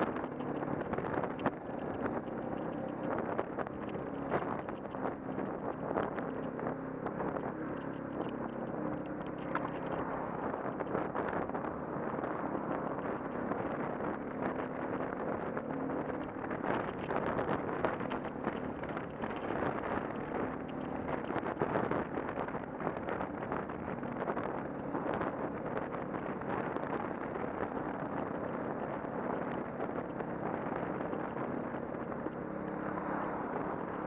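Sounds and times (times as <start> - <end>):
faint engine hum: 0.0 - 34.0
small rattles and clicks: 0.0 - 34.0
wind on microphone: 0.0 - 34.0.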